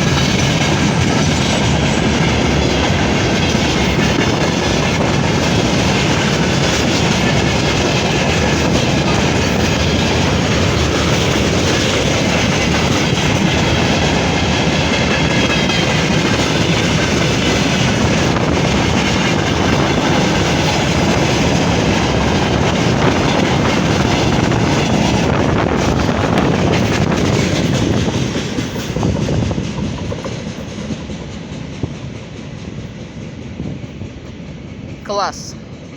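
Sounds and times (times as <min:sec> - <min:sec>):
train wheels clattering over rails: 0:00.0 - 0:35.9.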